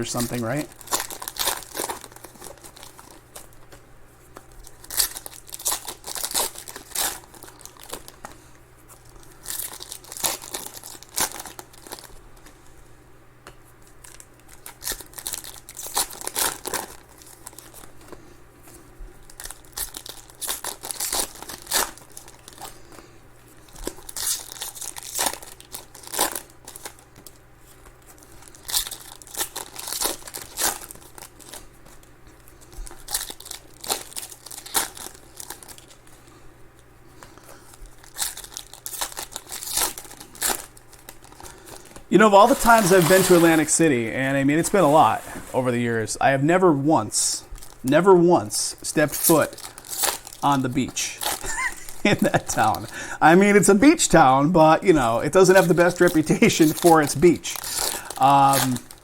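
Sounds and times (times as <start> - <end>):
foil wrappers tearing and crinkling: 0.0 - 3.6, 4.3 - 12.6, 13.9 - 18.1, 19.2 - 36.1, 37.6 - 45.2, 47.5 - 48.0, 48.7 - 59.0.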